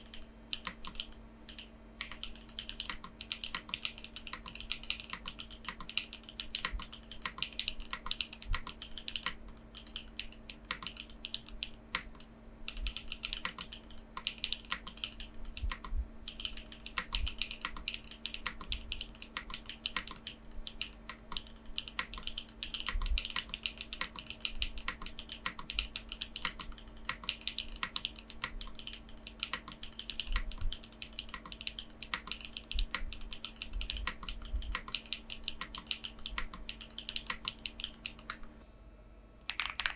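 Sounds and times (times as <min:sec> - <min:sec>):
mechanical keyboard typing: 0:00.0 - 0:38.5, 0:39.4 - 0:39.9.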